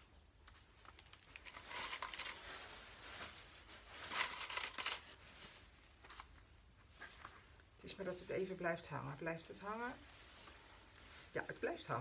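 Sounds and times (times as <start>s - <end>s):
moss rustling and crinkling: 0.0s - 12.0s.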